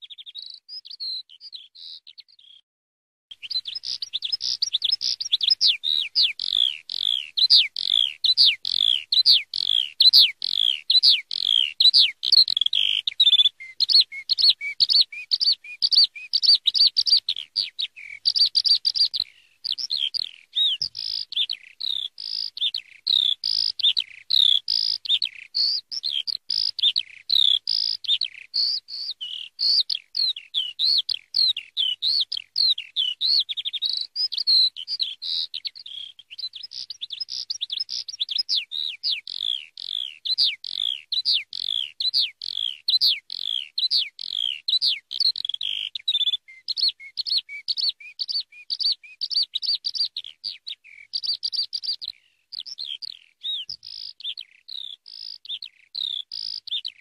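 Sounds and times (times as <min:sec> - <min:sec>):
skylark singing: 0:00.0 - 0:02.6, 0:03.3 - 0:57.0.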